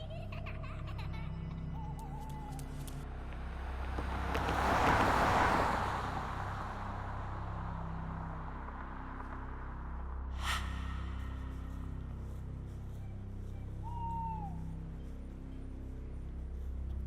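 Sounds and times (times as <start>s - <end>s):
low steady drone: 0.0s - 17.0s
rushing swell: 3.0s - 16.9s.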